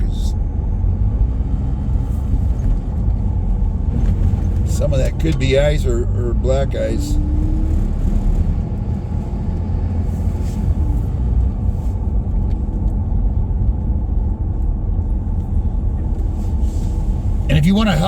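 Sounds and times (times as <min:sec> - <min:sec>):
vehicle engine and tyre noise: 0:00.0 - 0:18.0.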